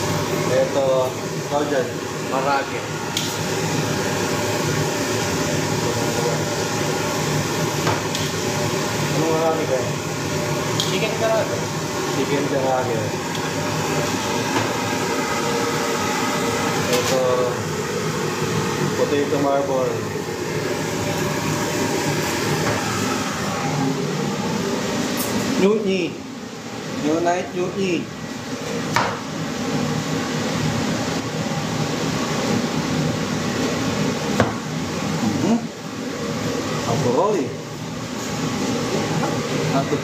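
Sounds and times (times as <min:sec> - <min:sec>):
kitchen fans whirring: 0:00.0 - 0:40.0
ventilation hum: 0:00.0 - 0:40.0.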